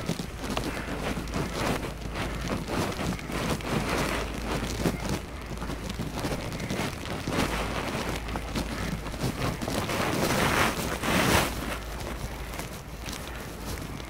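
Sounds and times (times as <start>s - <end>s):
footsteps crunching in snow: 0.0s - 14.0s
wind buffeting microphone: 0.0s - 14.0s.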